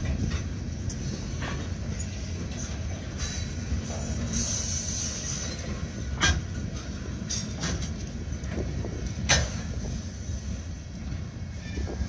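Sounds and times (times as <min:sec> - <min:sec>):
rail cars rumbling on track: 0:00.0 - 0:12.0.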